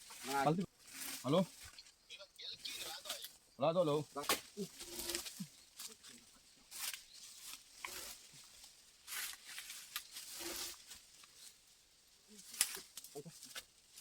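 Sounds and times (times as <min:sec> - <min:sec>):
rustling and scraping: 0:00.0 - 0:14.0.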